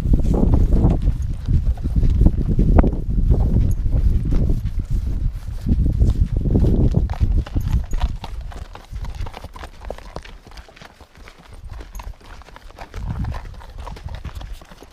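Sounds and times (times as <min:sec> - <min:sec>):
horse hooves clip-clopping: 0:00.0 - 0:14.9.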